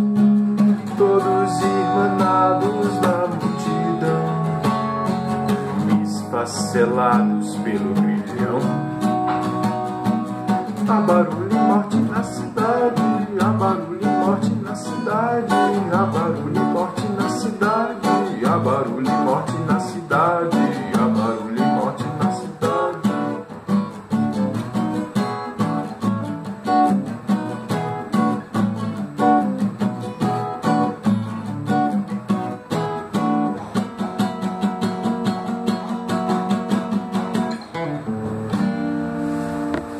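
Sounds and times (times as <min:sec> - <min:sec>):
acoustic guitar strumming chords: 0:00.0 - 0:39.9.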